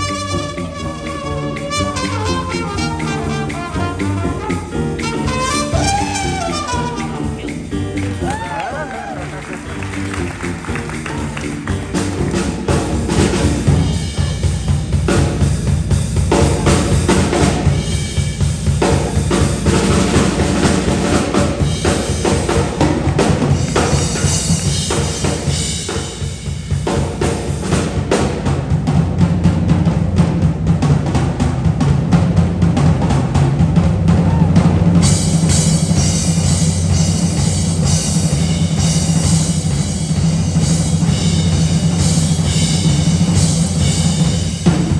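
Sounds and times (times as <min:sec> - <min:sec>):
cymbals: 0:00.0 - 0:28.6, 0:34.1 - 0:44.9
bass notes: 0:00.0 - 0:44.9
live band music: 0:00.0 - 0:44.9.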